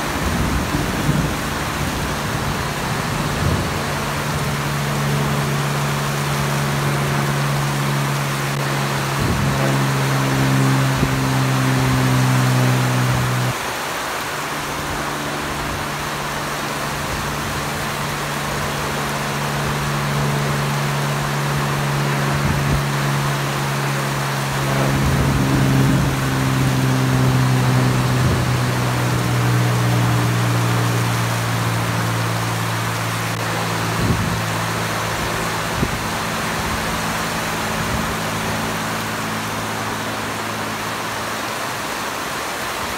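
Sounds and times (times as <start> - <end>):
propeller plane engine droning: 0.0 - 42.9
rain hissing: 0.0 - 42.9.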